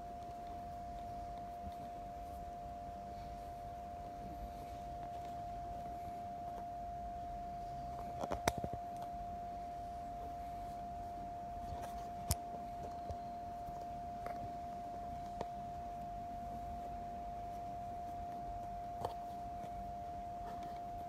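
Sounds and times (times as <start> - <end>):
high-pitched hum: 0.0 - 21.0.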